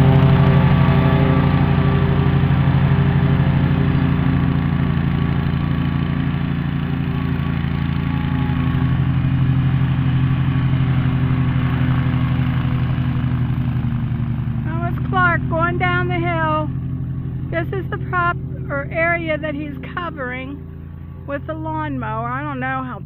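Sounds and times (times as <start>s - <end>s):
lawnmower engine running: 0.0s - 23.0s.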